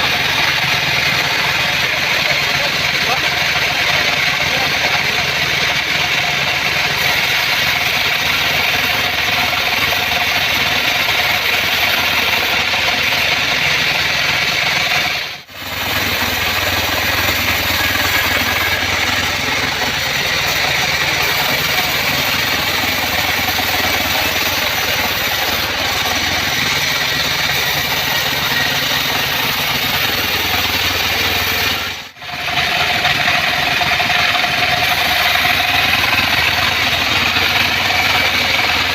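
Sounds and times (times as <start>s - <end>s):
bandsaw sawmill running: 0.0s - 38.9s.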